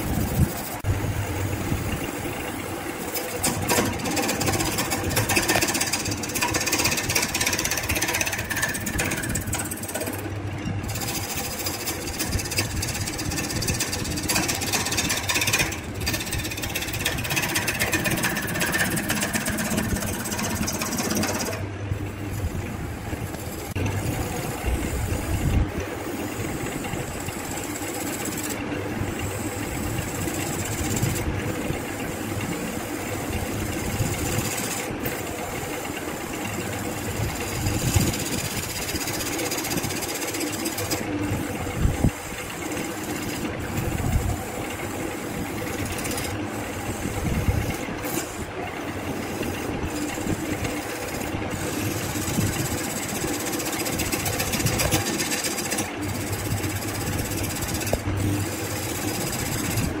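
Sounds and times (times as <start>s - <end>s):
turning tool scraping hiss: 0.0s - 60.0s
wood lathe motor hum: 2.3s - 60.0s.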